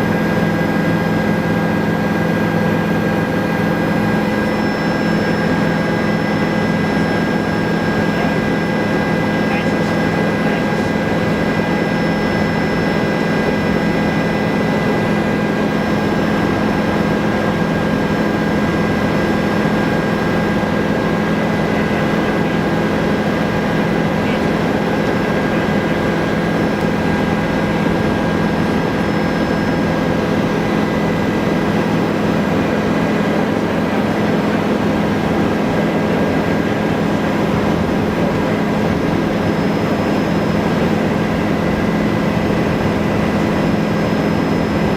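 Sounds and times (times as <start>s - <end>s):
helicopter engine and rotor drone: 0.0s - 44.9s
high drivetrain whine: 0.3s - 44.9s.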